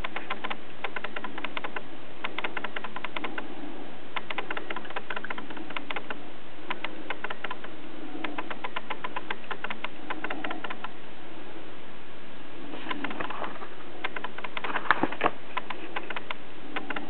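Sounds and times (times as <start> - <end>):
rapid sharp clicks: 0.0 - 3.5, 4.2 - 11.0, 12.8 - 17.0.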